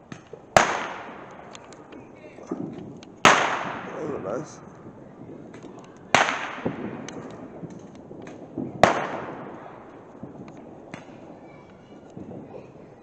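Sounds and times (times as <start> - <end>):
firework bangs: 0.0 - 13.0
faint firework pops: 0.1 - 12.9.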